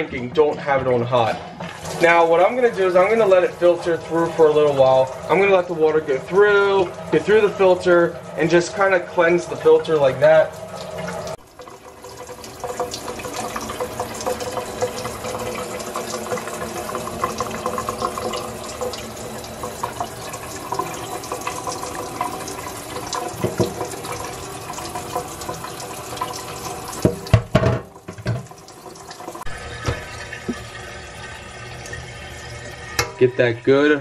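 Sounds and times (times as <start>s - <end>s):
water stream splashing into sink: 0.6s - 34.0s.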